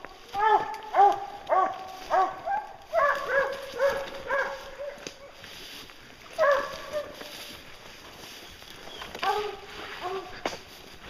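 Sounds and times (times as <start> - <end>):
hounds barking: 0.0 - 5.5, 6.2 - 7.6, 8.8 - 10.9.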